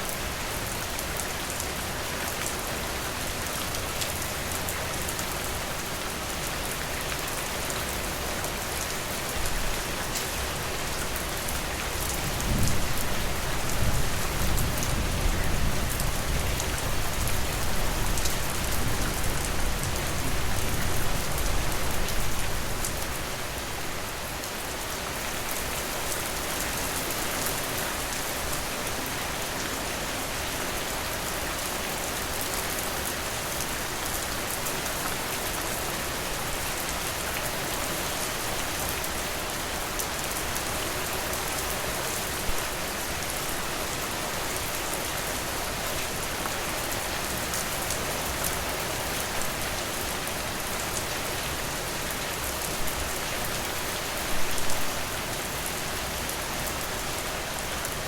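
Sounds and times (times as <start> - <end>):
dense rainfall: 0.0 - 58.0.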